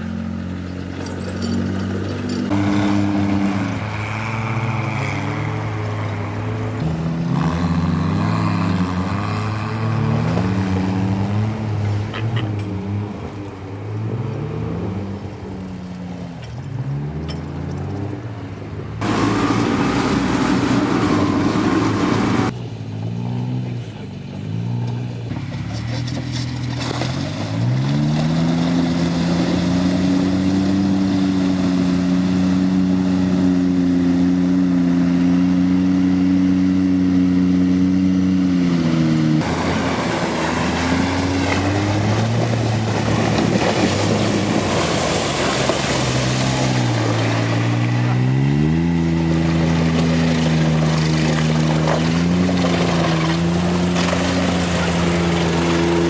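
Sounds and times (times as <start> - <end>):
water and mud splashing: 0.0 - 16.4, 19.0 - 22.6, 25.4 - 37.6, 38.6 - 56.0
engine revving: 0.0 - 18.4, 19.0 - 56.0.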